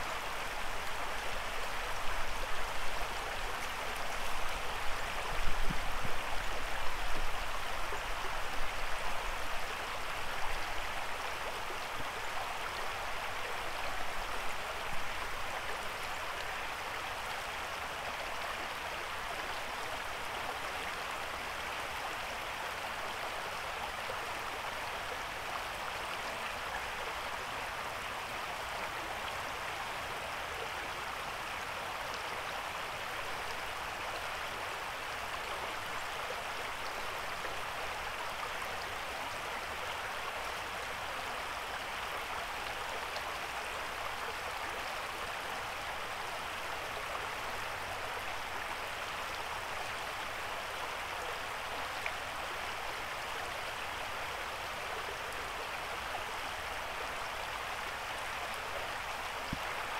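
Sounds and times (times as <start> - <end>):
creek running over stones: 0.0 - 59.9.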